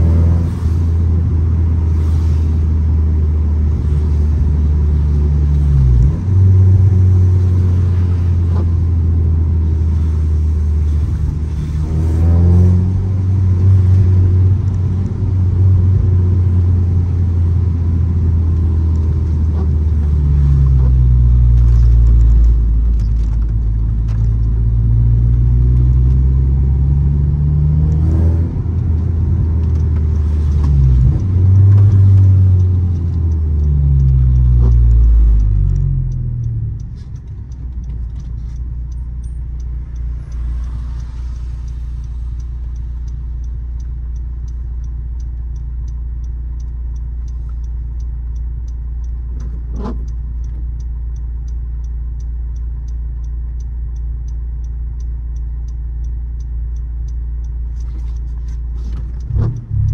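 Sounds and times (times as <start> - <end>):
car engine revving: 0.0 - 45.8, 57.7 - 59.9
turn signal ticking: 0.0 - 59.9.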